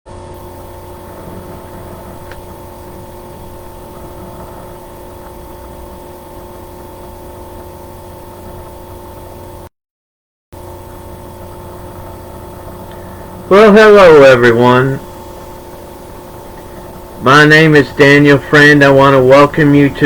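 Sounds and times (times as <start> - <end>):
mechanical hum and whir: 0.1 - 9.7, 10.6 - 20.0.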